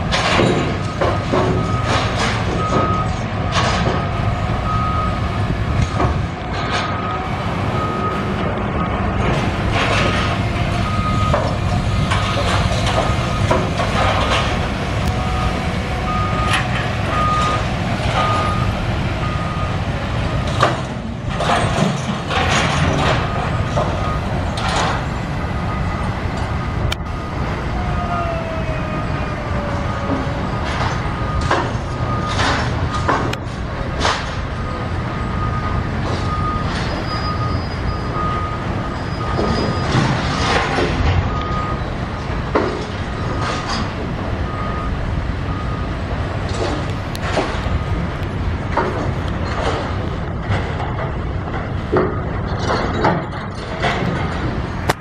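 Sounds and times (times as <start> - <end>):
knocks and clanks: 0.0 - 5.0, 5.7 - 27.0, 29.6 - 37.4, 39.1 - 44.4, 46.4 - 55.0
engine rumble: 0.0 - 55.0
vehicle backup alarm beeping: 0.4 - 21.2, 22.4 - 33.4, 34.5 - 50.2.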